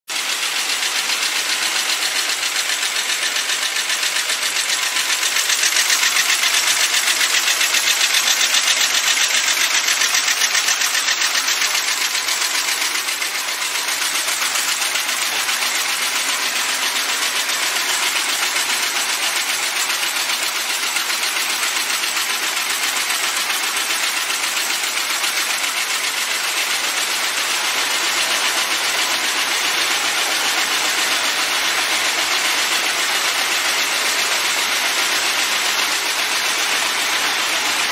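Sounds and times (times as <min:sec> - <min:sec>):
rapid mechanical clatter of machinery: 0:00.1 - 0:37.9.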